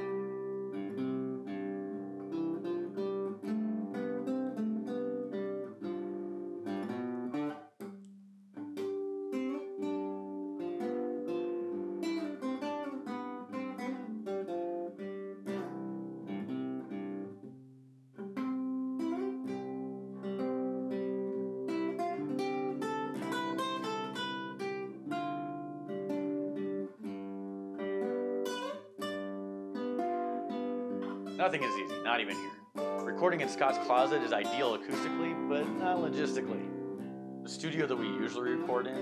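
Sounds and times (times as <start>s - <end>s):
solo classical guitar: 0.0s - 39.0s.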